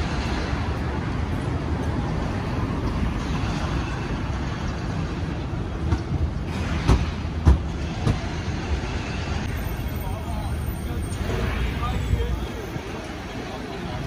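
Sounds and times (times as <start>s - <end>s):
rumble of passing cars: 0.0s - 14.0s.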